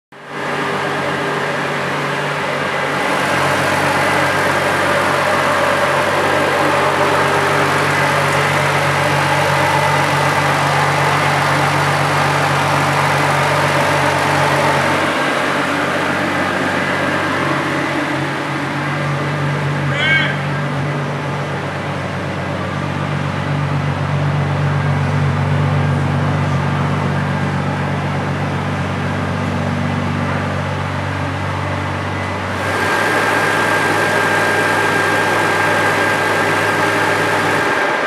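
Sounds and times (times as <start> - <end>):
car engine idling: 0.1 - 38.0.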